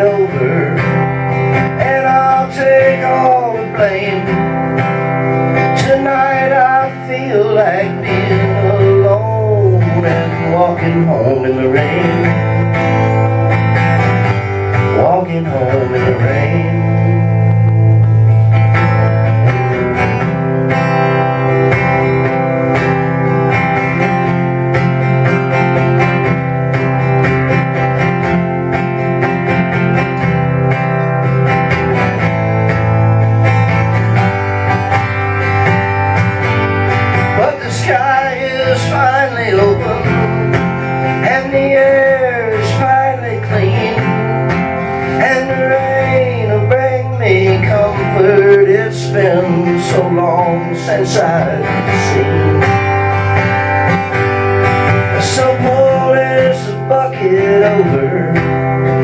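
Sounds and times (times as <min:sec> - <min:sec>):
acoustic guitar: 0:00.0 - 0:59.0
country band playing: 0:00.0 - 0:59.0
sliding lead melody: 0:00.0 - 0:59.0.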